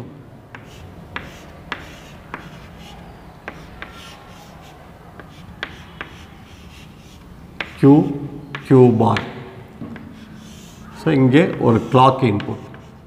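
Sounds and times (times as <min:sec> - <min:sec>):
chalk tapping and scraping on chalkboard: 0:00.5 - 0:13.0.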